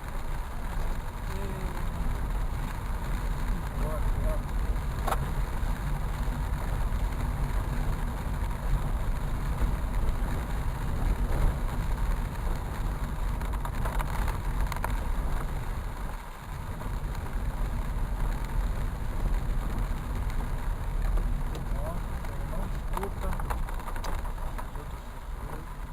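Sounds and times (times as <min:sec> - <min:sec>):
heavy rain: 0:00.0 - 0:25.9
road traffic rumble: 0:00.0 - 0:25.9.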